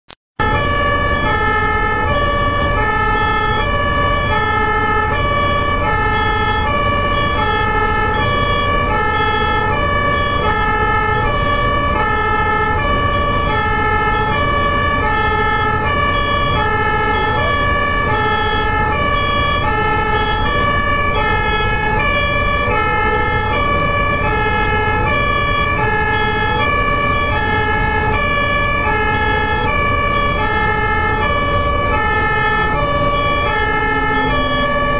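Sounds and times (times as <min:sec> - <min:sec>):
low rumble of road noise: 0:00.4 - 0:34.9
two-tone emergency siren: 0:00.4 - 0:34.9.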